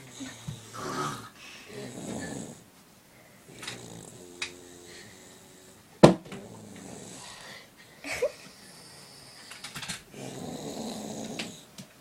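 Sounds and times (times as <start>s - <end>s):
person snoring: 0.0s - 2.6s, 3.4s - 7.7s, 8.5s - 11.7s.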